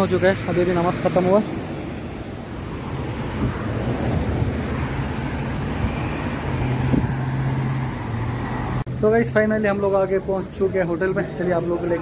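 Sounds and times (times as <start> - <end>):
road traffic rushing: 0.0 - 12.0.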